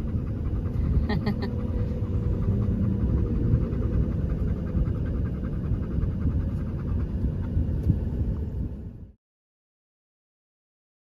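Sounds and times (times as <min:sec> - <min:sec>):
heavy vehicle engines rumbling: 0:00.0 - 0:09.1.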